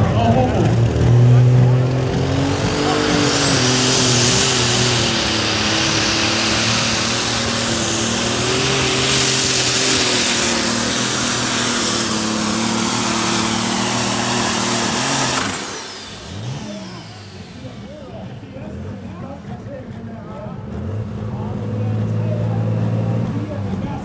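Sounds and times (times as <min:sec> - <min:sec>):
tractor engine running flat out: 0:00.0 - 0:24.0.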